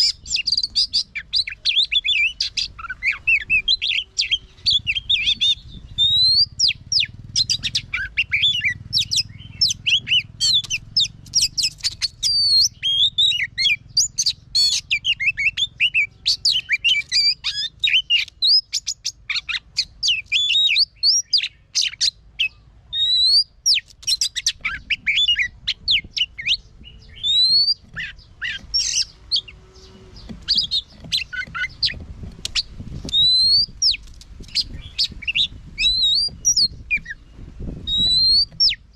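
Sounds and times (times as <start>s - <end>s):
bird singing varied whistles: 0.0s - 38.9s.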